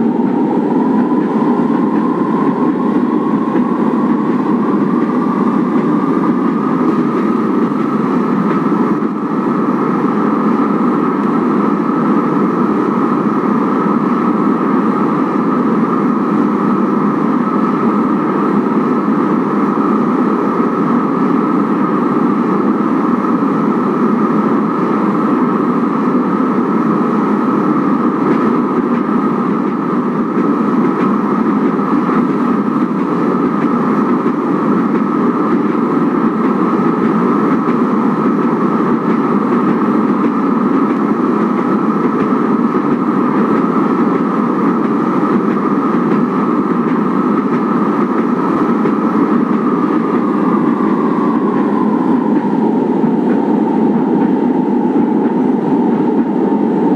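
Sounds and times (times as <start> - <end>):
light rail train rumbling: 0.0 - 56.9.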